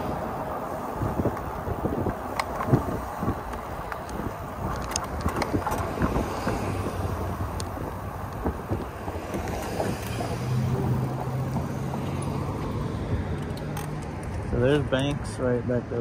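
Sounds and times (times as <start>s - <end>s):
wind on microphone: 0.0s - 14.9s
bike rumbling on trail: 0.0s - 15.4s.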